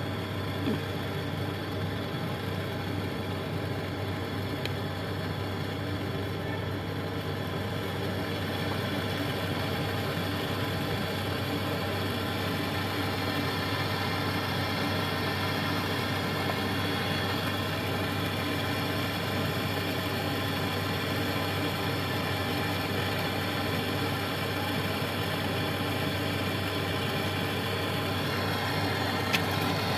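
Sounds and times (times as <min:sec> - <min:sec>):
steady mechanical drone: 0:00.0 - 0:29.9.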